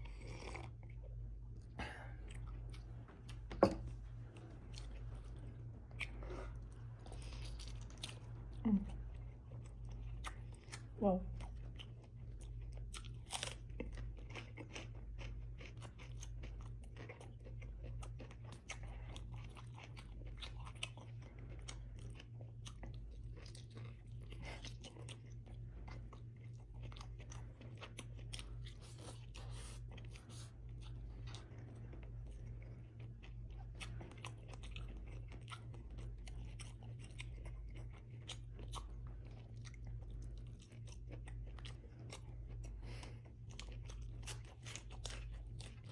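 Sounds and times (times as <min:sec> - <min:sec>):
chewing and crunching food: 0:00.0 - 0:45.9.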